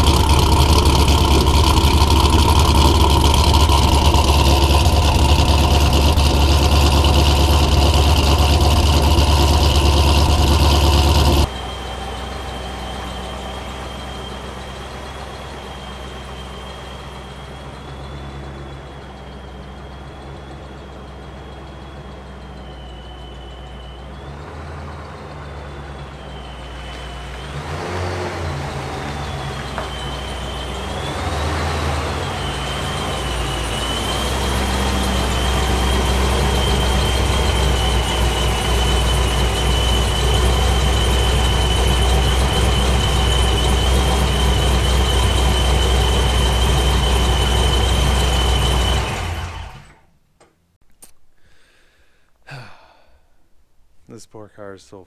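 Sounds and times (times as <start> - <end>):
car engine idling: 0.0 - 50.0
engine revving: 0.0 - 50.0
supercharger whine: 0.0 - 50.1.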